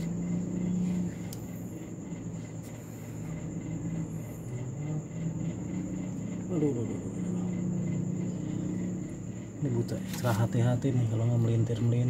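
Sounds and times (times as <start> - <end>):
crickets chirring: 0.0 - 12.0
low engine hum: 0.0 - 12.0.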